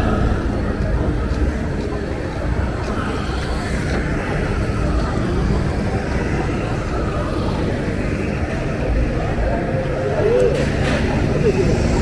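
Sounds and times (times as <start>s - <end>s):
road traffic rumble: 0.0s - 12.0s
scooters and cars running: 0.0s - 12.0s.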